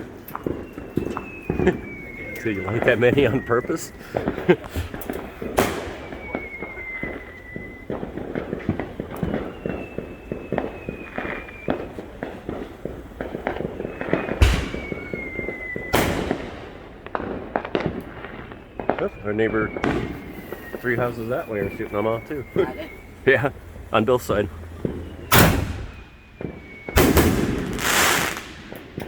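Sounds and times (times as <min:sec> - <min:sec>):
faint falling whistle: 0:00.0 - 0:12.4, 0:13.4 - 0:16.9, 0:18.3 - 0:29.0
fireworks loud bangs: 0:00.0 - 0:29.0
fireworks pops and crackles: 0:00.0 - 0:29.0.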